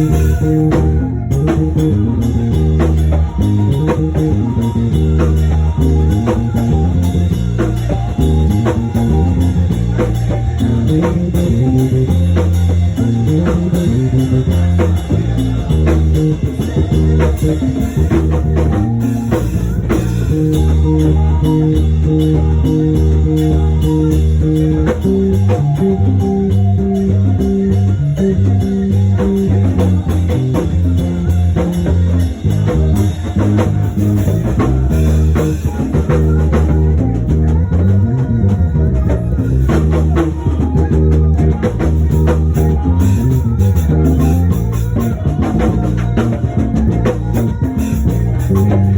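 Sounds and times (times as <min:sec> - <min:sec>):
drum kit groove: 0:00.0 - 0:48.9
electric bass: 0:00.0 - 0:48.9
electric guitar: 0:00.0 - 0:48.9.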